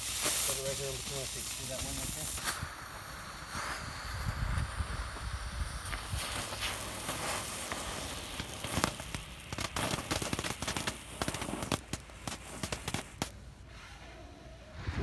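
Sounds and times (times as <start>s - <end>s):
fireworks crackling pops: 0.0s - 13.6s
fireworks hissing: 0.0s - 14.0s.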